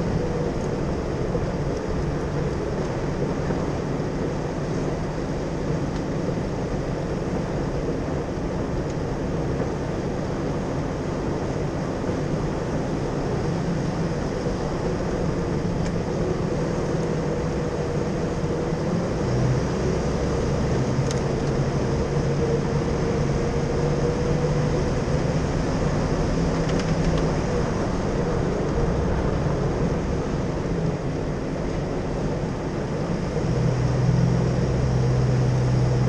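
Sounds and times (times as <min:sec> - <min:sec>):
engine hum: 0:00.0 - 0:36.0.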